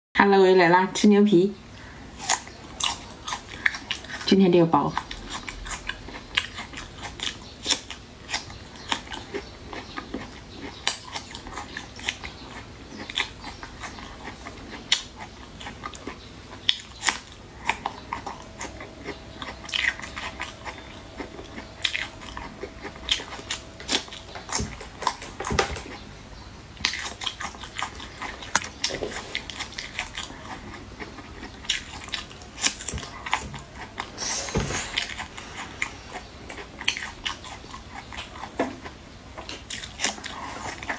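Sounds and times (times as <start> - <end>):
chewing with mouth clicks: 1.9 - 26.2, 26.8 - 40.9
biting: 4.9 - 26.1, 26.8 - 40.9.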